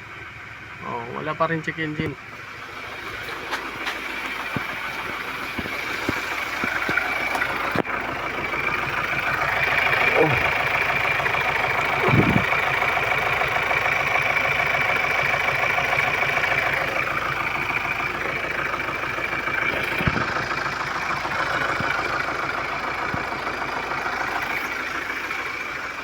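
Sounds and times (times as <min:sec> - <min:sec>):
car engine idling: 0:00.0 - 0:26.0
high turbo whine: 0:00.0 - 0:26.0.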